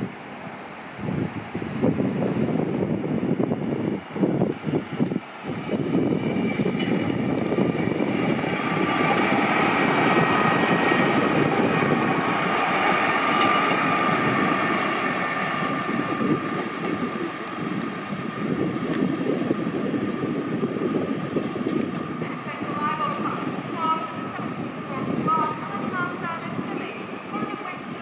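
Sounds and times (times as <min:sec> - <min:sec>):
diesel train engines whining: 0:00.0 - 0:28.0
train wheels rumbling on track: 0:00.0 - 0:28.0.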